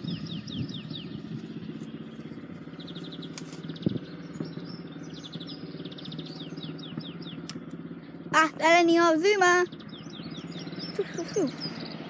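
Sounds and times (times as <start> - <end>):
low engine-like rumble: 0.0 - 12.0
small birds singing: 0.0 - 12.0.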